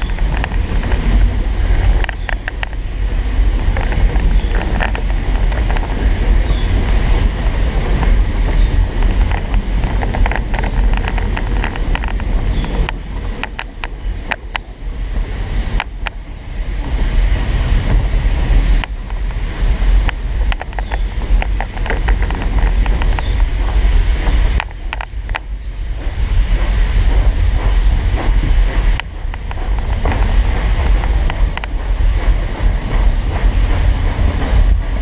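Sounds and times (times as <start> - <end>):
clicks and knocks from track: 0.0 - 35.0
train rumbling: 0.0 - 35.0
wind buffeting microphone: 0.0 - 35.0.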